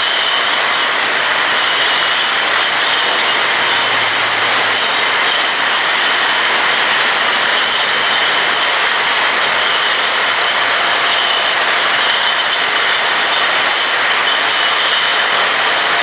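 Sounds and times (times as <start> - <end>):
bottle conveyor rattling: 0.0 - 16.0.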